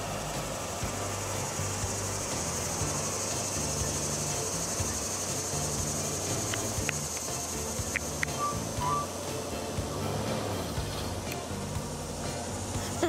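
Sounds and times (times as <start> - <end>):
car engine rumbling: 0.0 - 13.0
insects buzzing in trees: 0.0 - 13.0.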